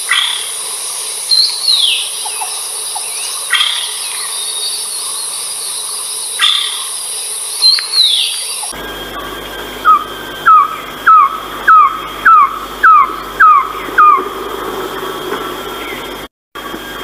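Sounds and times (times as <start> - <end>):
bird yelping calls: 0.0 - 0.6, 1.2 - 14.4.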